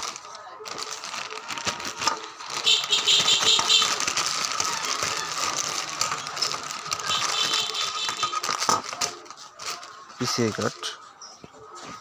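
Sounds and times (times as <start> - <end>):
packaging rustling: 0.0 - 10.9.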